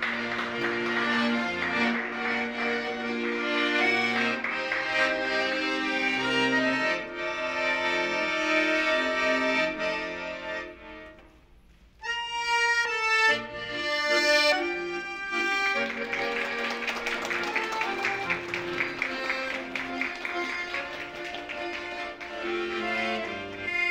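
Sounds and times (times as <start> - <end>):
accordion playing chords: 0.0 - 23.9.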